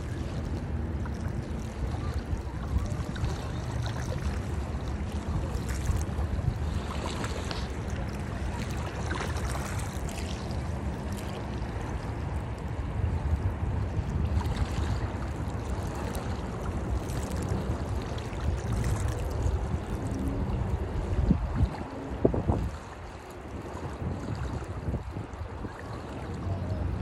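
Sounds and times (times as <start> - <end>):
small waves lapping: 0.0 - 27.0
wind on microphone: 0.0 - 27.0.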